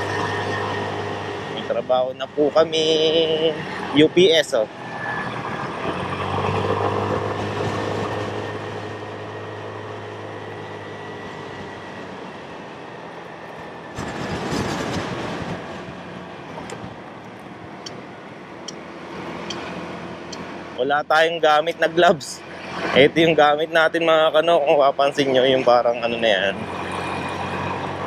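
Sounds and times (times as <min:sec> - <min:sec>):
motorcycle engine hum: 0:00.0 - 0:23.4
road and wind rush: 0:00.0 - 0:28.0.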